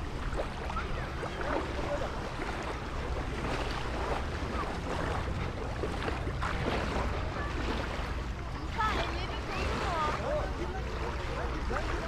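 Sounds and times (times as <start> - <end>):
sea waves washing: 0.0 - 12.0.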